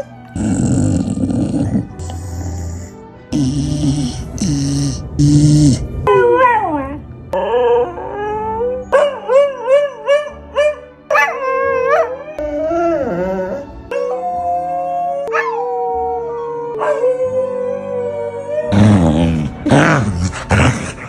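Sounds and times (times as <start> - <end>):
dog howling: 0.0 - 21.0.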